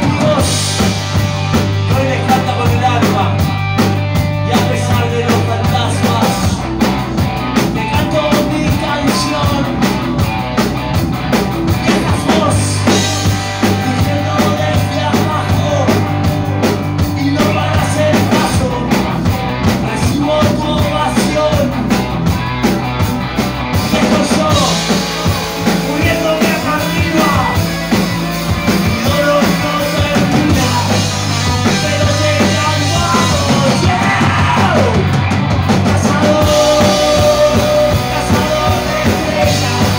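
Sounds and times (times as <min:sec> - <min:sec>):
person singing: 0:00.0 - 0:03.5, 0:04.4 - 0:06.8, 0:07.6 - 0:10.1, 0:11.7 - 0:21.8, 0:23.8 - 0:35.2, 0:35.8 - 0:39.9
bass guitar: 0:00.0 - 0:39.9
drum kit: 0:00.0 - 0:39.9
electric guitars: 0:00.0 - 0:39.9.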